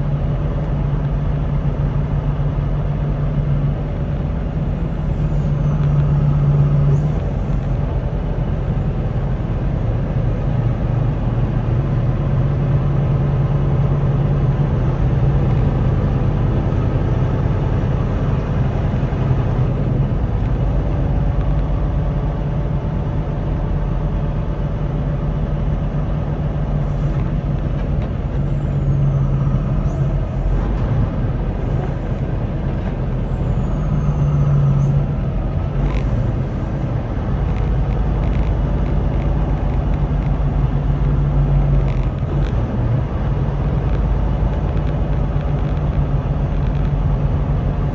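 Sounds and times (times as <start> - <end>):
road noise: 0.0 - 47.9
truck diesel engine drone: 0.0 - 47.9.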